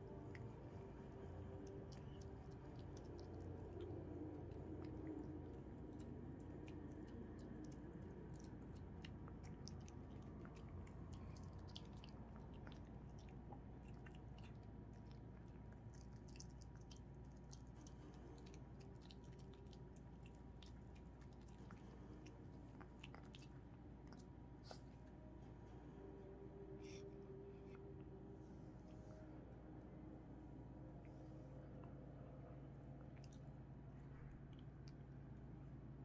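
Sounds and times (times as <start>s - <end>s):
puppy chewing: 0.0s - 25.4s, 31.0s - 35.1s.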